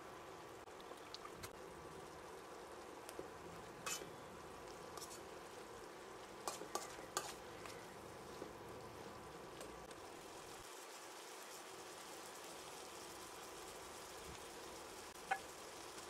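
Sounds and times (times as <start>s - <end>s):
curry sizzling in a metal pan: 0.0s - 16.0s.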